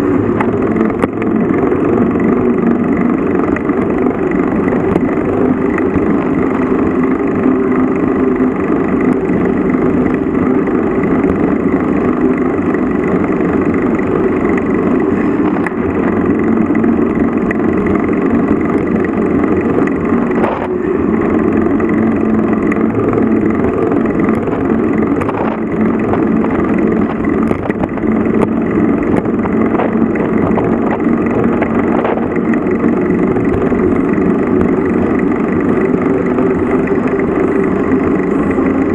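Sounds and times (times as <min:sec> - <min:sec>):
vehicle engine running: 0:00.0 - 0:38.9
wind and road noise: 0:00.0 - 0:38.9.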